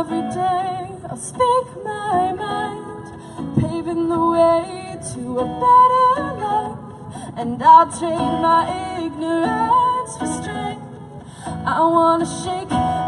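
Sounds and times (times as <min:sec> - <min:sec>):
strummed acoustic guitar: 0:00.0 - 0:13.0
woman singing: 0:00.0 - 0:13.0.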